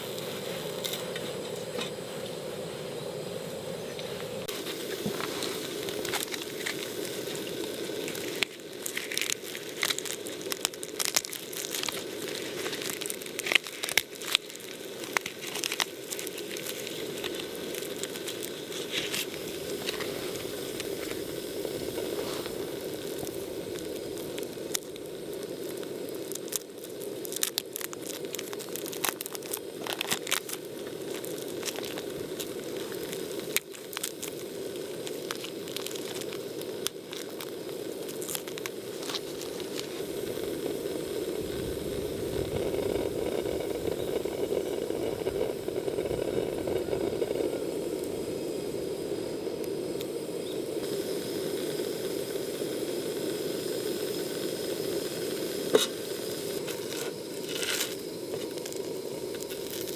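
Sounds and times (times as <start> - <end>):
low rush of flame: 0.0 - 59.9
campfire crackling and popping: 4.2 - 59.9.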